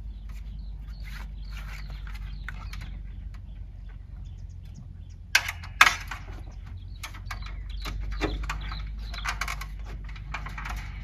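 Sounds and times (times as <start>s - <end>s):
metal rods knocking: 1.9s - 11.0s.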